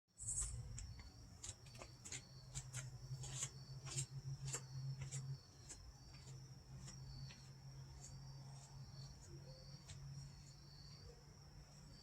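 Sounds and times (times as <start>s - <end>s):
insects trilling and chirping: 0.2s - 12.0s.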